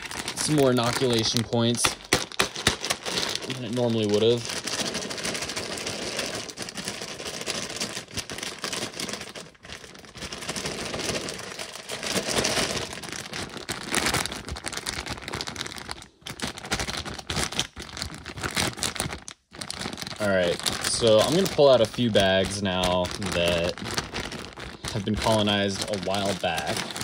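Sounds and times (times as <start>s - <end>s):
corn kernels rattling in bag: 0.0s - 27.0s
plastic bag crinkling: 0.0s - 27.0s.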